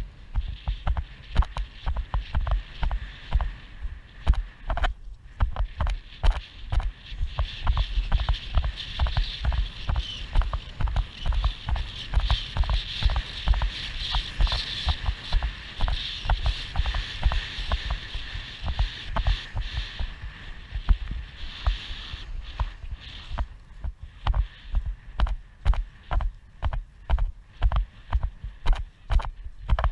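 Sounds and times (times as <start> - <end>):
hoofbeats on grass: 0.0 - 29.9
wind on microphone: 0.0 - 29.9.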